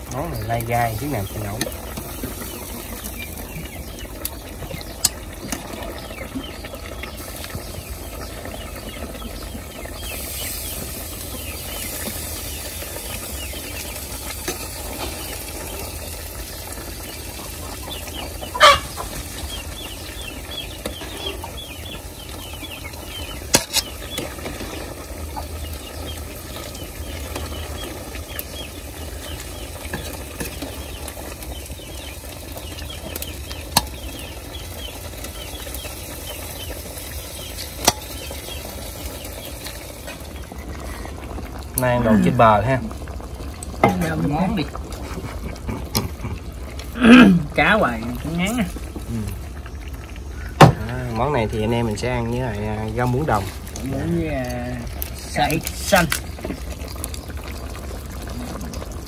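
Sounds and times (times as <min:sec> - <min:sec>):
broth bubbling and sizzling: 0:00.0 - 0:59.0.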